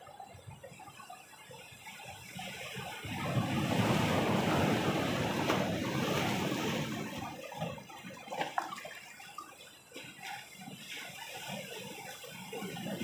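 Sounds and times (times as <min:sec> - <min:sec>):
waves breaking against rocks: 0:02.0 - 0:13.0.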